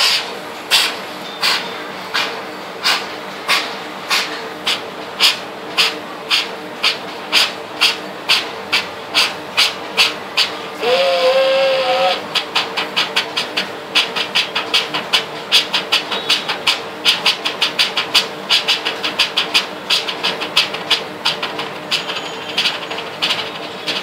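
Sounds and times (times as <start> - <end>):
train wheels clattering over rails: 0.0 - 24.0.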